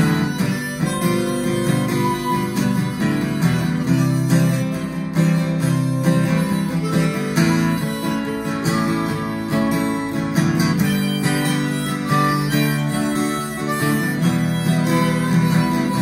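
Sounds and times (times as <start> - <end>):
acoustic guitar strumming: 0.0 - 16.0
harmonica playing: 0.0 - 16.0.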